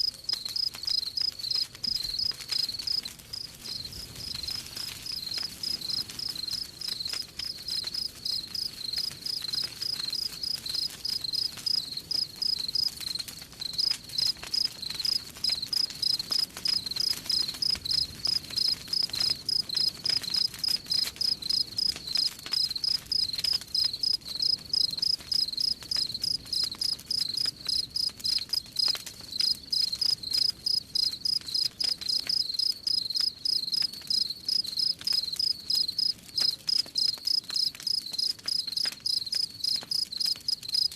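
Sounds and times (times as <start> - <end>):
cricket chirping: 0.0 - 40.9
faint campfire crackles: 0.0 - 40.9.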